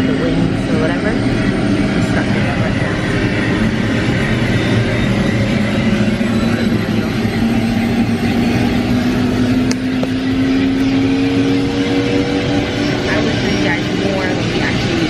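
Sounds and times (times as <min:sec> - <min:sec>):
helicopter engine and rotor: 0:00.0 - 0:15.0
rising engine whine: 0:00.0 - 0:15.0.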